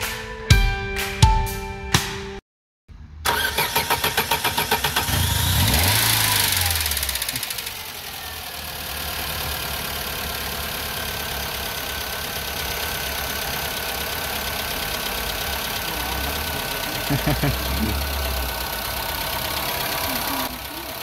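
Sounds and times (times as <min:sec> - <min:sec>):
car engine starting and idling: 0:02.9 - 0:21.0.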